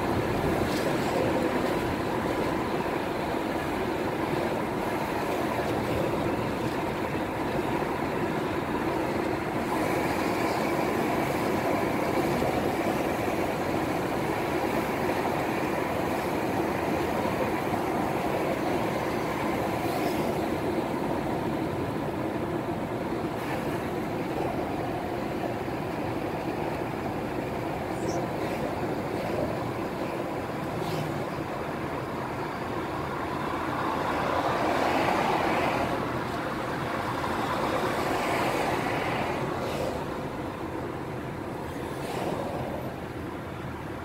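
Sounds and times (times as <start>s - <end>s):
tyres humming on road: 0.0s - 44.0s.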